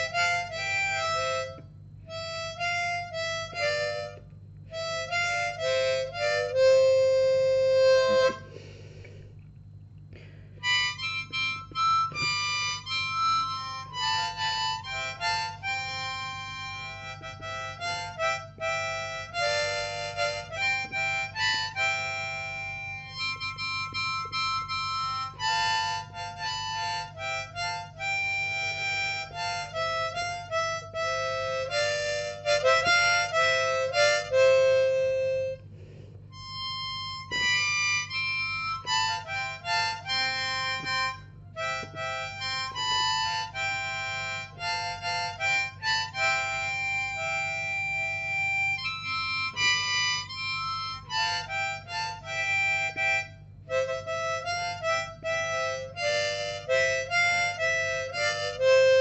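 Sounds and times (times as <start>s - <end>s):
harmonica playing slow melody: 0.0s - 9.2s, 10.1s - 59.0s.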